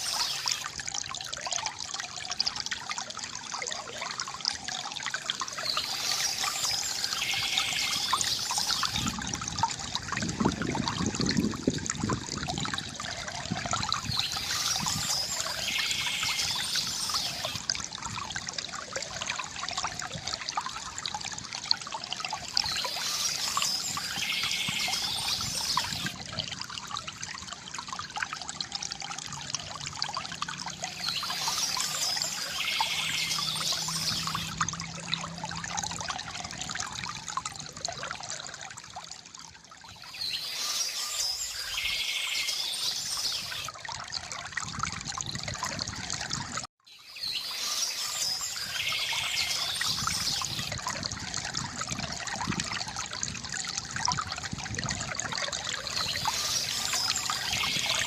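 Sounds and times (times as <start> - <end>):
river water gurgling: 0.0 - 58.0.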